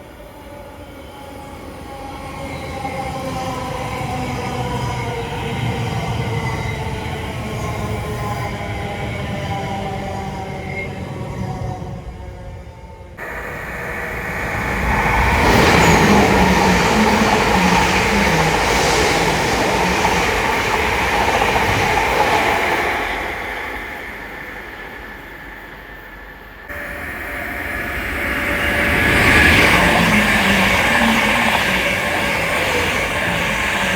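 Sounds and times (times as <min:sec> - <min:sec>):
train passing: 0:01.4 - 0:33.9.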